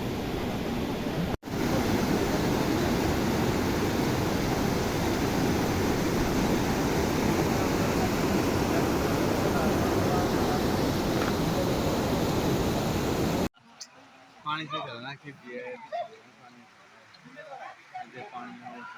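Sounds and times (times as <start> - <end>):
rushing floodwater: 0.0 - 18.9.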